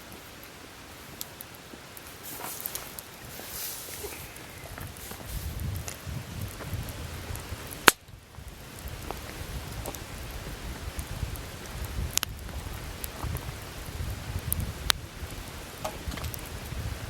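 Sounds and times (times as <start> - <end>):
campfire flames rumbling: 0.0 - 17.0
fire crackling and popping: 0.0 - 17.0.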